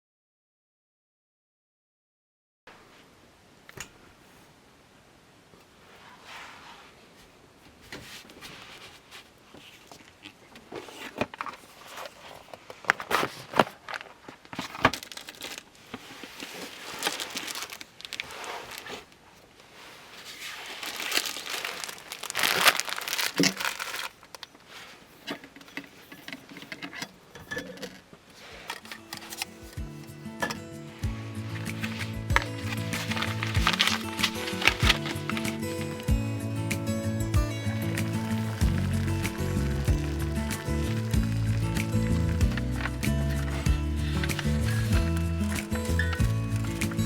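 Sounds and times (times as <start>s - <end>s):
rustling and crinkling: 5.5s - 47.0s.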